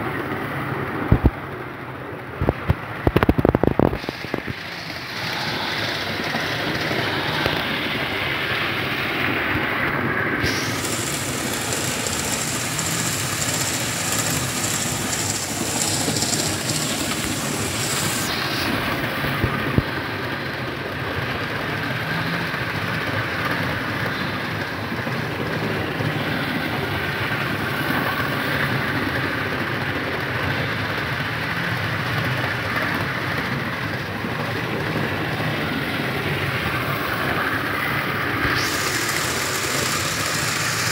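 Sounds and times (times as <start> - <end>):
model train running on track: 0.0 - 40.9.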